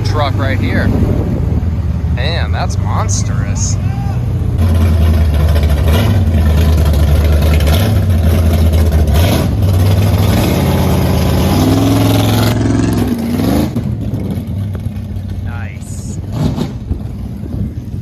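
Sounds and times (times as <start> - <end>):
truck engine driving past: 0.0 - 18.0.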